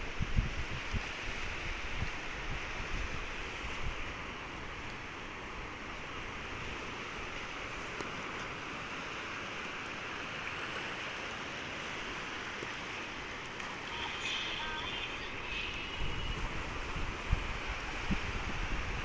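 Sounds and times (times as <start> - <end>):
sea waves washing onto shore: 0.0 - 19.0.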